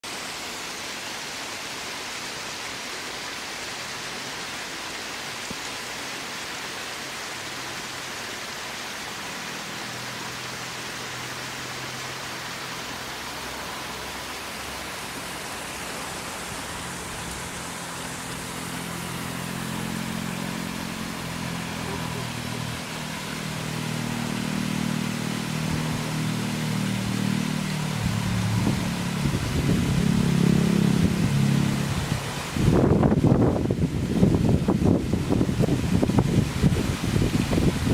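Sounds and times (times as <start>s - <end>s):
waterfall rushing hiss: 0.0s - 37.9s.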